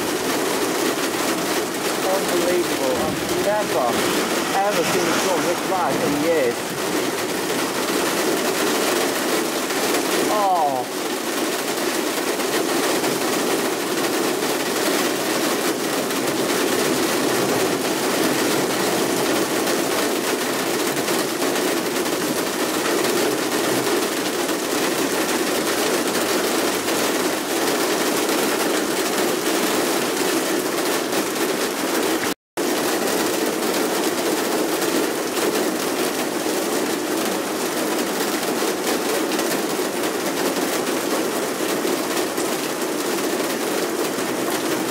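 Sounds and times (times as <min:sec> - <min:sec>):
torrential rain on pavement: 0:00.0 - 0:44.9.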